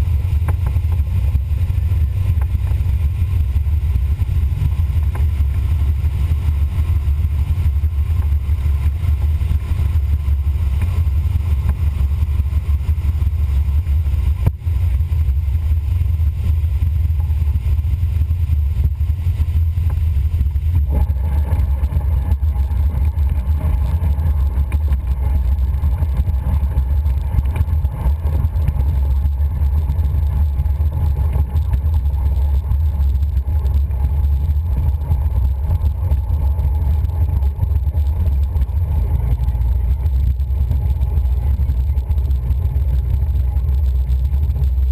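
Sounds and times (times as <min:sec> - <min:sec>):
propeller engine rumbling: 0:00.0 - 0:44.9.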